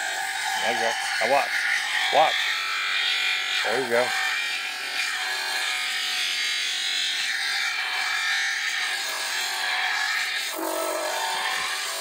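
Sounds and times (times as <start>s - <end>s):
stone grinding on abrasive disc: 0.0s - 12.0s.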